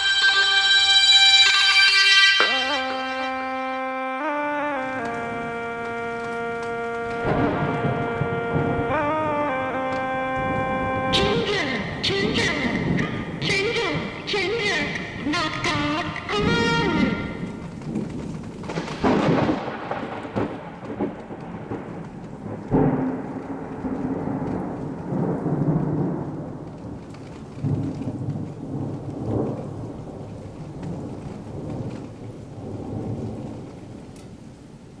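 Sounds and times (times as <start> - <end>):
low rolling rumbles: 5.0 - 35.0.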